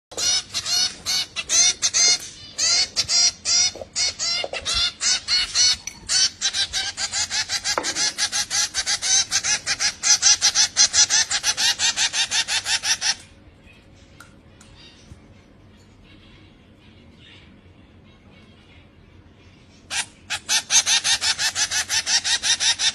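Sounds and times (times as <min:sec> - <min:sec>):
birds chirping rapidly: 0:00.1 - 0:22.9.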